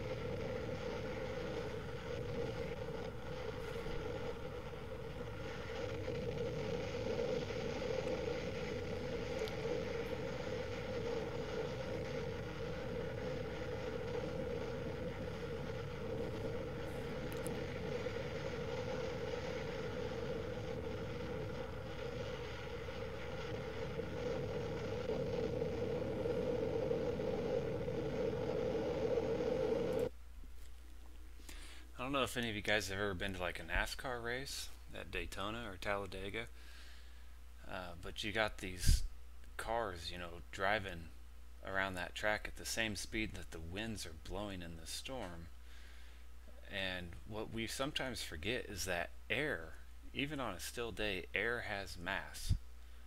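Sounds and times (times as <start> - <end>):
steady hum: 0.0 - 53.0.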